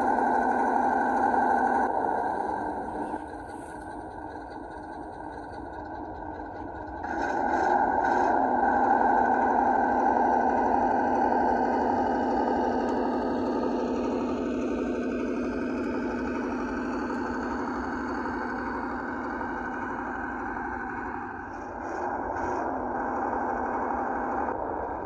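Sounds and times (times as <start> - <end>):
model truck engine running: 0.0 - 25.0.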